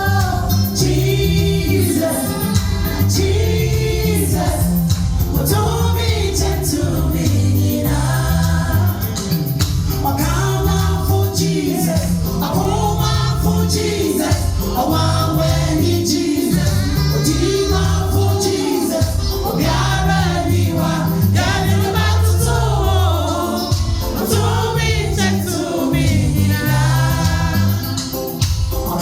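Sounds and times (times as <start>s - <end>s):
band with bass and drums: 0.0s - 29.0s
voices singing gospel: 0.0s - 29.0s.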